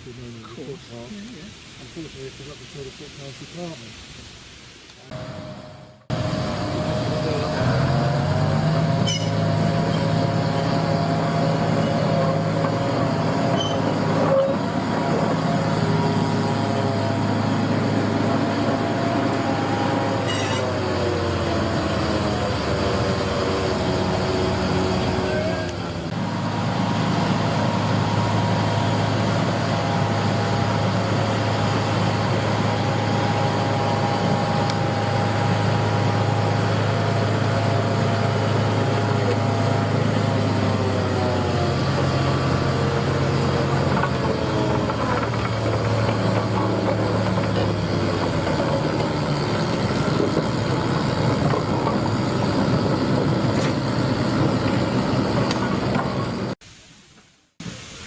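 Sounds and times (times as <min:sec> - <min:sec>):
diesel locomotive engine running: 0:05.0 - 0:56.6.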